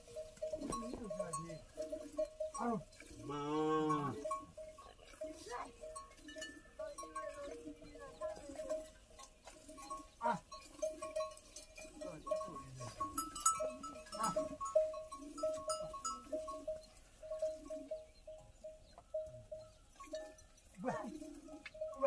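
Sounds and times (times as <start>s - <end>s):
water buffalo calls: 0.0s - 22.0s.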